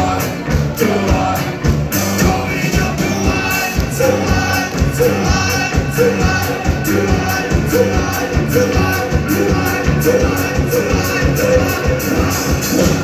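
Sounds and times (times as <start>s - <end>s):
live band playing: 0.0s - 13.0s
steady drum beat: 0.0s - 13.0s.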